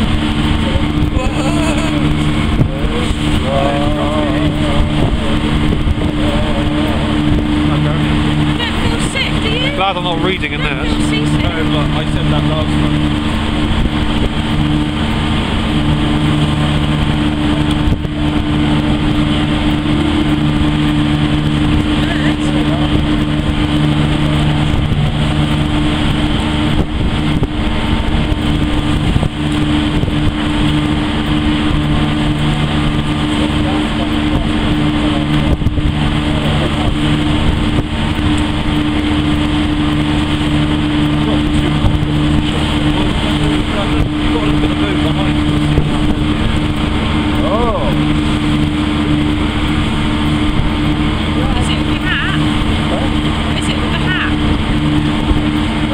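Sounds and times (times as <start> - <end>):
ferry diesel engines droning: 0.0 - 55.9
wind and sea rushing: 0.0 - 55.9.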